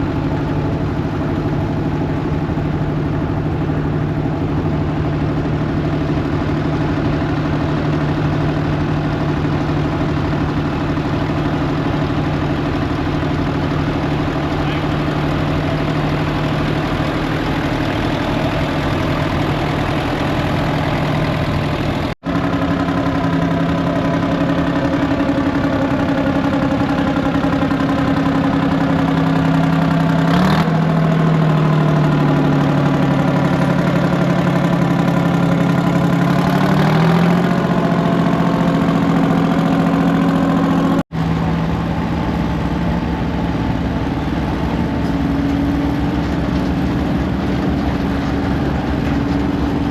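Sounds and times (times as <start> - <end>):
engine idling: 0.0 - 49.9.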